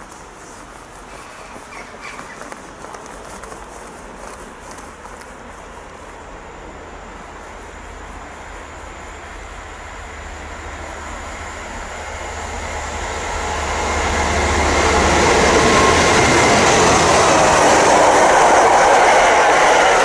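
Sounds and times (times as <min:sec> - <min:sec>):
diesel locomotive passing: 0:00.0 - 0:20.0.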